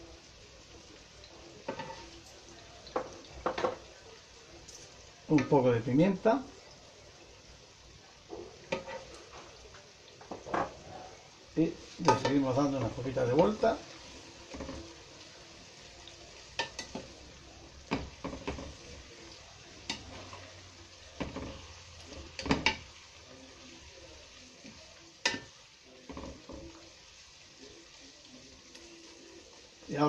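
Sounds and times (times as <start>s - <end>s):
faint frying sizzle: 0.0s - 30.0s.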